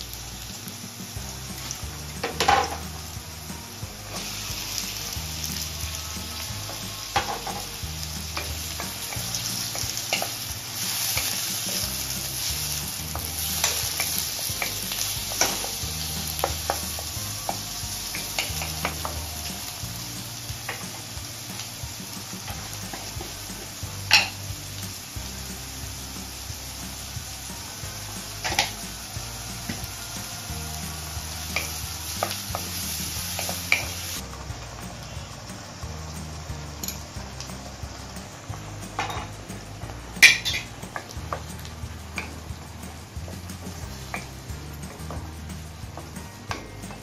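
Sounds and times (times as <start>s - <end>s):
vegetables sizzling in oil: 0.0s - 47.0s.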